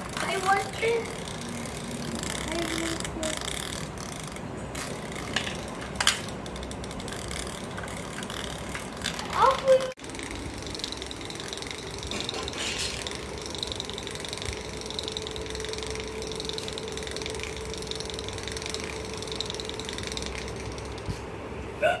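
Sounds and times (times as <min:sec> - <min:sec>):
robot legs rattling on tile: 0:00.0 - 0:21.2
small motor whirring: 0:00.0 - 0:21.3.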